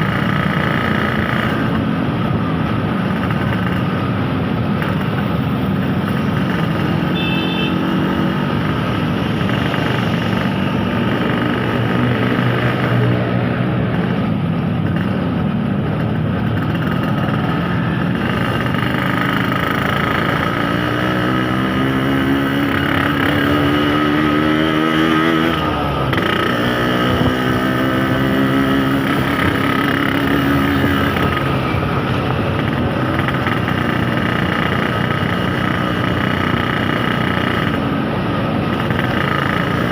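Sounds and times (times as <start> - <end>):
two-stroke motorcycle engine accelerating: 0.0 - 39.9.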